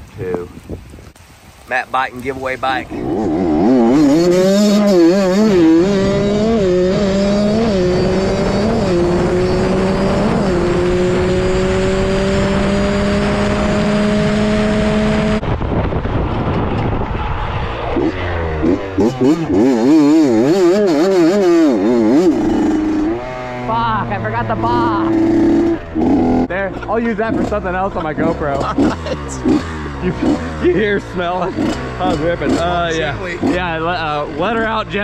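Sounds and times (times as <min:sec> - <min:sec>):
motorcycle engine revving: 0:02.7 - 0:35.0.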